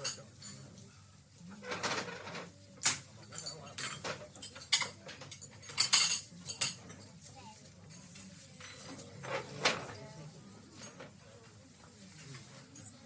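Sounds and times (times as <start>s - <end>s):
cutlery and crockery clinking: 0.0s - 0.8s, 1.6s - 13.0s
muffled background talk: 0.0s - 13.0s.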